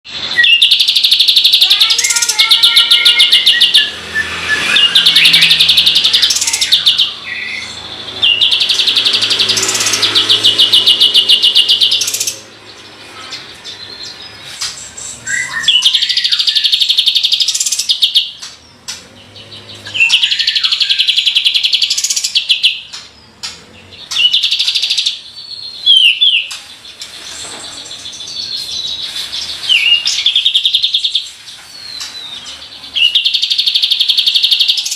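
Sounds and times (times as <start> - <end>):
bird singing rattling trills: 0.2 - 34.9.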